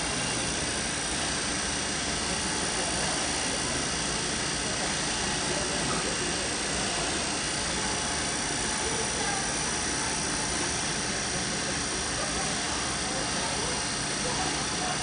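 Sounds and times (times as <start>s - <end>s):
pumps and motors running: 0.0s - 15.0s.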